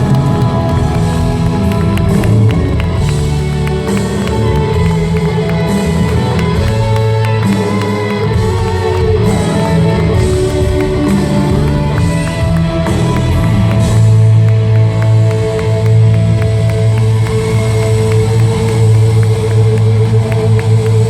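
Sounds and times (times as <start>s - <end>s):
live band instrumental music: 0.0s - 21.0s.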